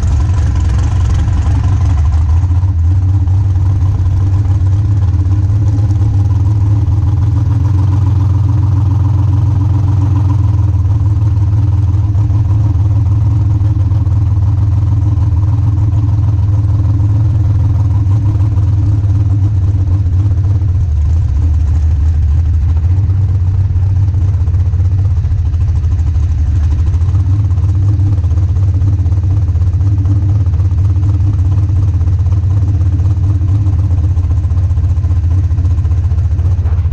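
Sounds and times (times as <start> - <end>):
dragster engine running at low revs: 0.0 - 36.9.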